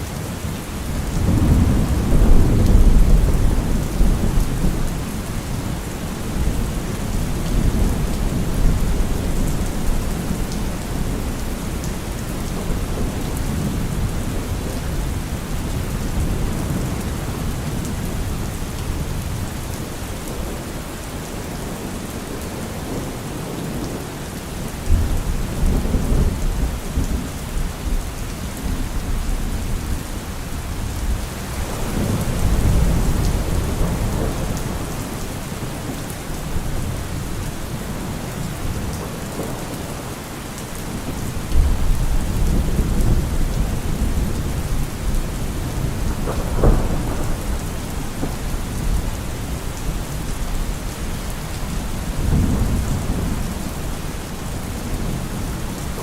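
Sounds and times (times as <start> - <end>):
heavy rain on a car roof: 0.0 - 56.0
thunder rumbling: 0.9 - 19.8, 28.6 - 40.1, 40.9 - 56.0.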